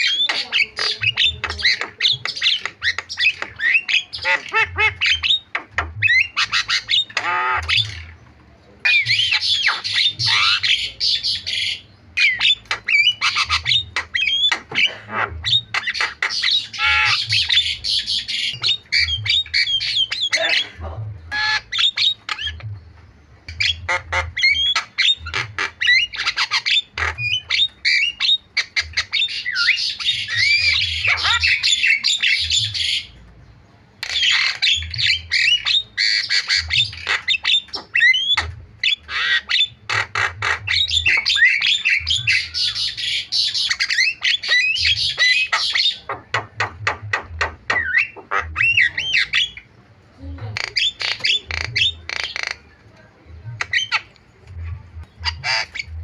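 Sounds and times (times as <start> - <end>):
myna singing chattering squawks: 0.0 - 22.8, 23.5 - 33.2, 34.0 - 56.0.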